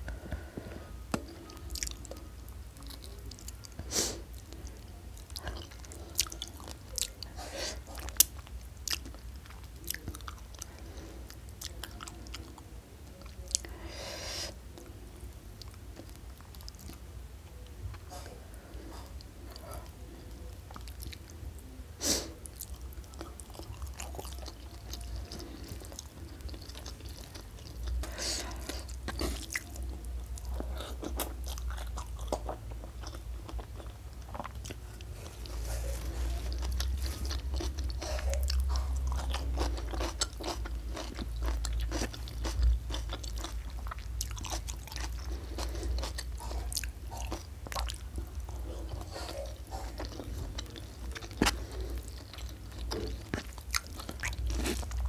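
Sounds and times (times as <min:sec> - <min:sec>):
chewing and mouth sounds: 0:01.1 - 0:13.7, 0:22.4 - 0:55.0.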